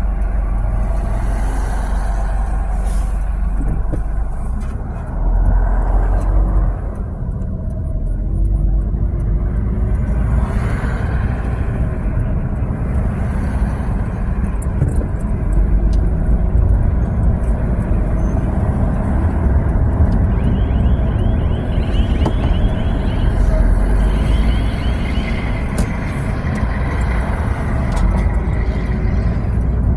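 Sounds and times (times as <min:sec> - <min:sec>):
road and engine rumble inside car: 0:00.0 - 0:29.9.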